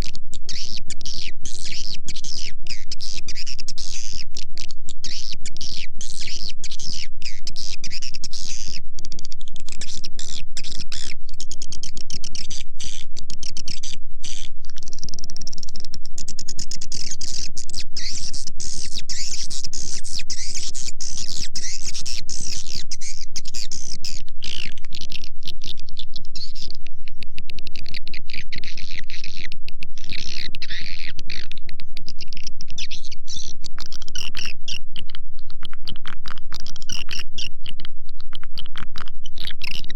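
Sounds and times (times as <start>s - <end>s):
swiftlets twittering and chirping: 0.0s - 26.8s, 27.8s - 34.8s
steady low hum: 0.0s - 38.4s.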